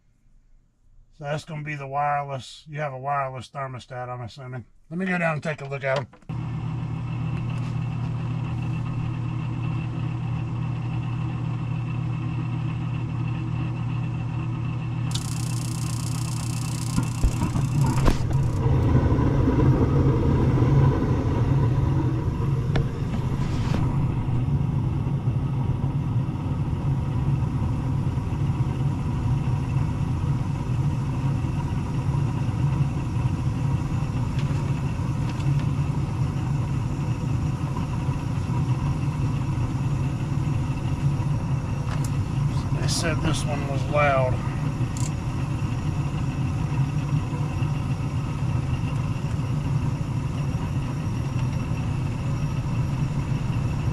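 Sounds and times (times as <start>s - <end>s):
furnace motor humming: 6.2s - 53.9s.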